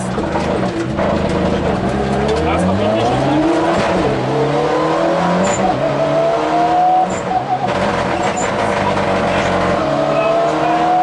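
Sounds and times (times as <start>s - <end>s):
car engine under hard acceleration: 0.0s - 11.0s.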